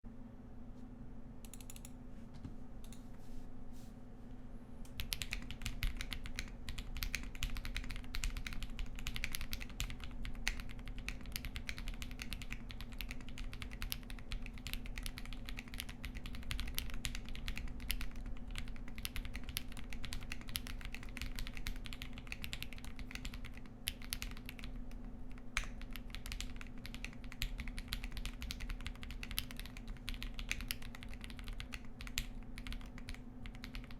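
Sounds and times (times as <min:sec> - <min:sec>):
mechanical keyboard typing: 0:01.5 - 0:01.9, 0:05.0 - 0:33.9.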